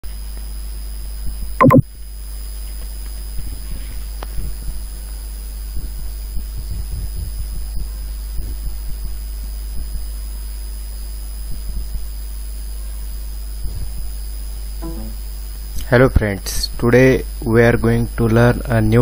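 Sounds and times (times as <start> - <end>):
steady low hum: 0.5 - 19.0.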